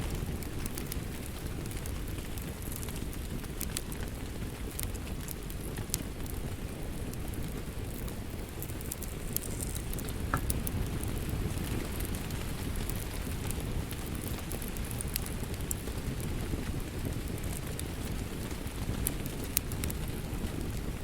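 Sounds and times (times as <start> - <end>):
steady rain: 0.0 - 21.0
wood fire crackling and popping: 0.0 - 21.0.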